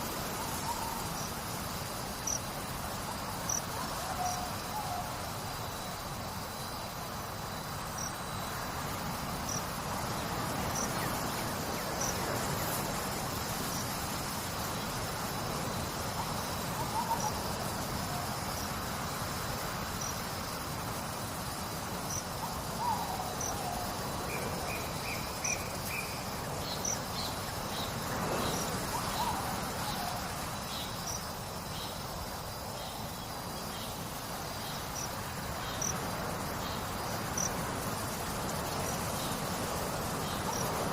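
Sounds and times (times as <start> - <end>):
high insect chirp: 0.0 - 40.9
insects trilling: 0.0 - 40.9.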